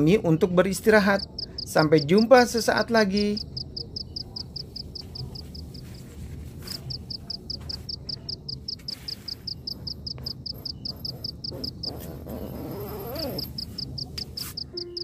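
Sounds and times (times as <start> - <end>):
cricket chirping: 0.8 - 5.8, 6.9 - 15.0.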